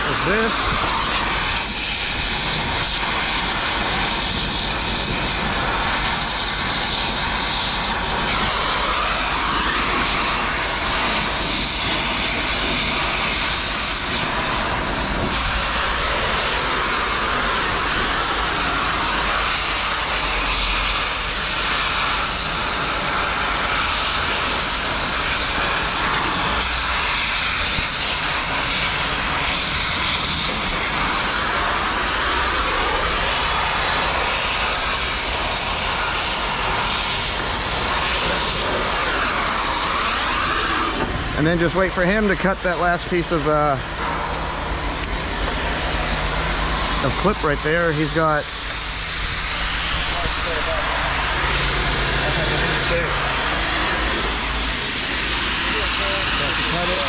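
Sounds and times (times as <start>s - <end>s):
cutting torch hissing roar: 0.0s - 57.0s.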